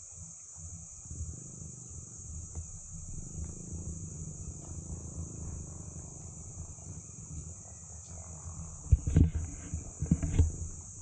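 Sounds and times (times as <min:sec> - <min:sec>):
insects droning: 0:00.0 - 0:11.0
low uneven rumble: 0:00.0 - 0:11.0.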